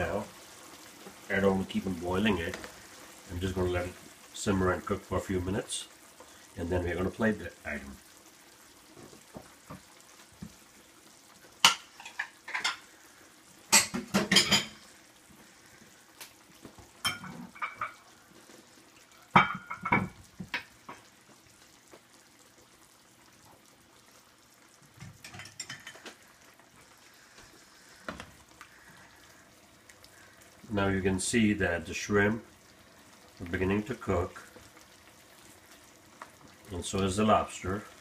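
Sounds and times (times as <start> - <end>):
sauce bubbling in a pan: 0.0 - 38.0.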